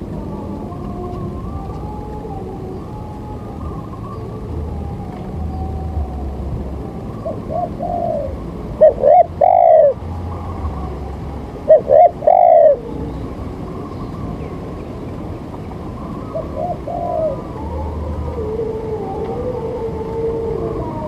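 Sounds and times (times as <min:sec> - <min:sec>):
bird calling: 0:00.0 - 0:21.0
steady low hum: 0:00.0 - 0:21.0.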